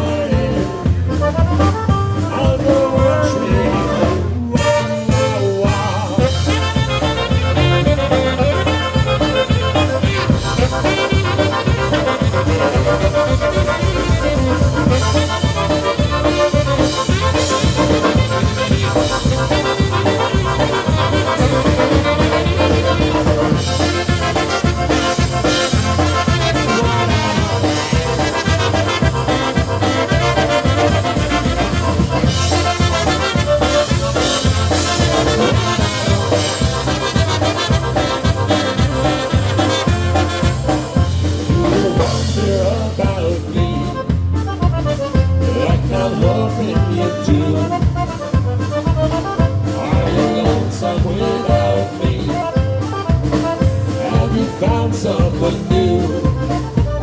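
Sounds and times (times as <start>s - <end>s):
polka band playing: 0.0s - 57.0s.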